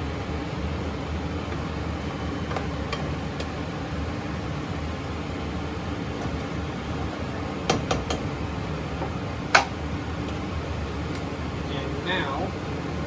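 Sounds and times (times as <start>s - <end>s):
stir-fry cooking in a pan: 0.0s - 13.0s.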